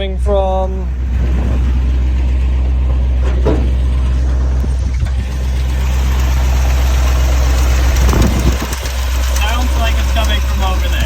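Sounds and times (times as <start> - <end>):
unexplained engine noise: 0.0 - 11.0
vehicle engine idling: 0.0 - 11.0.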